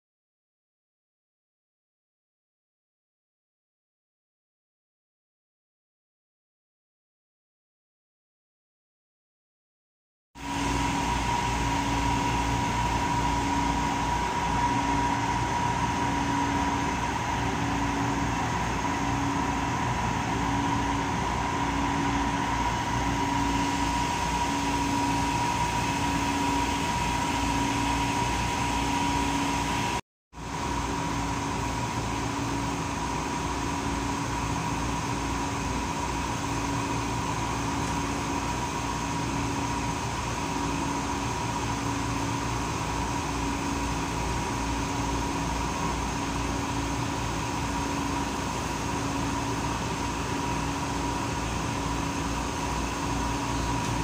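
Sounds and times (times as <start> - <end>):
idling diesel train hum: 10.4 - 54.0.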